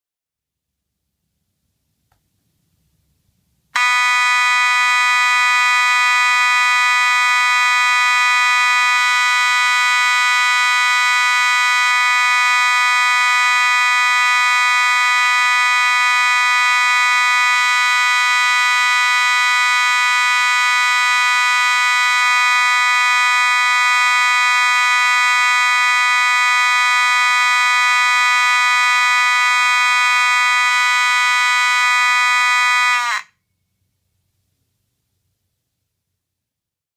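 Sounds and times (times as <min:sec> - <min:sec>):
fire alarm horn: 0:03.8 - 0:33.4.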